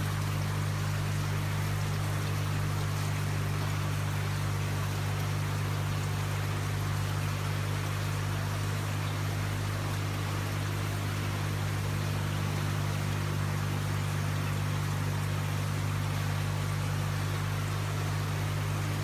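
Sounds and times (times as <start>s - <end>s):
water trickling down fountain: 0.0s - 19.0s.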